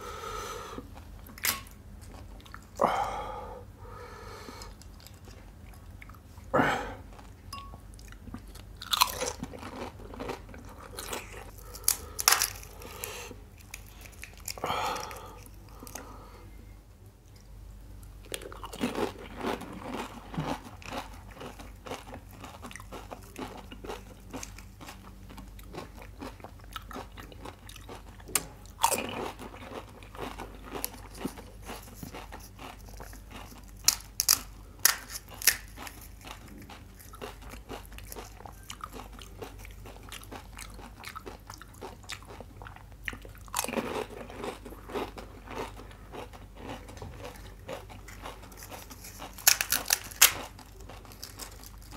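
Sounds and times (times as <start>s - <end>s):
crunching and chewing: 0.8s - 3.2s, 4.5s - 16.3s, 18.2s - 51.9s.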